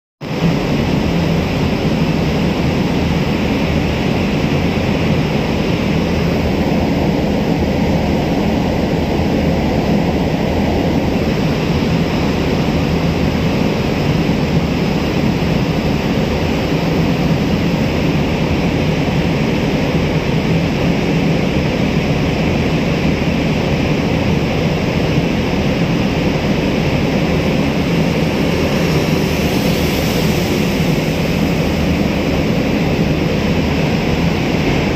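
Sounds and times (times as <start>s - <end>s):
wash of noise: 0.2s - 34.9s
low ship engine rumble: 0.3s - 34.9s.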